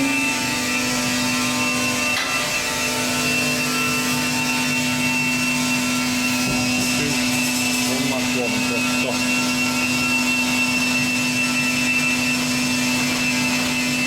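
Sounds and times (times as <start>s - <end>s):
baler machine humming and whining: 0.0s - 14.0s.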